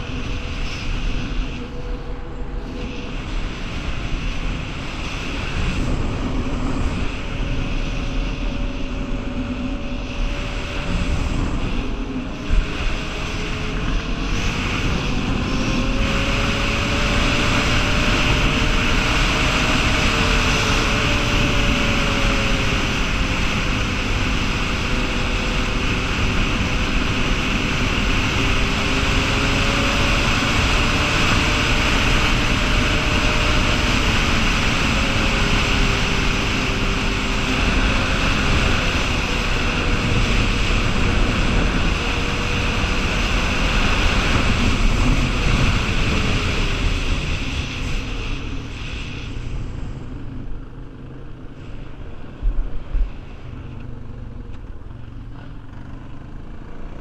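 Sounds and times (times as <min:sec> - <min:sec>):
wind on microphone: 0:00.0 - 0:50.6
atv engine running: 0:00.0 - 0:57.0.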